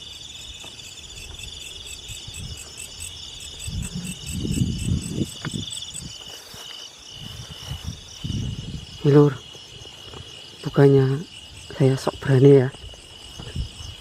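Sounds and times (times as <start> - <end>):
crickets and insects trilling: 0.0 - 14.0
high pulsed insect call: 0.0 - 14.0.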